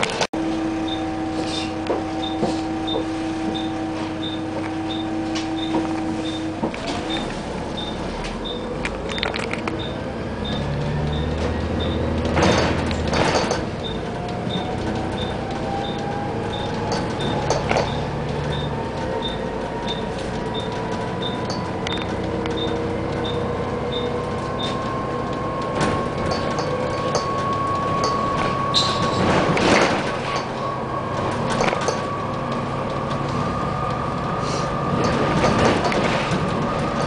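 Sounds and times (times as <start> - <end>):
bus drivetrain whine: 0.0 - 37.0
bus body rattles and knocks: 1.8 - 37.0.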